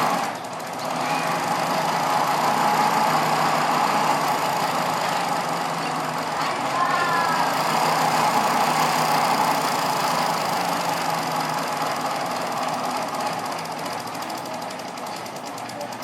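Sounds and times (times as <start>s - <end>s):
outdoor background noise: 0.0s - 16.0s
vehicle engine running: 0.0s - 16.0s.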